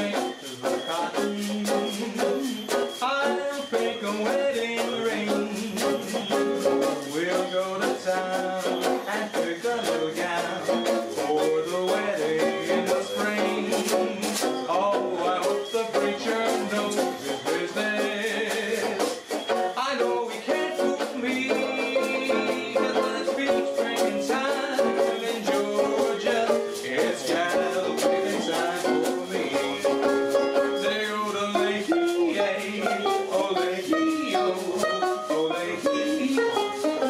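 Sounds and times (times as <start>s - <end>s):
banjo picked and strummed: 0.0s - 37.0s.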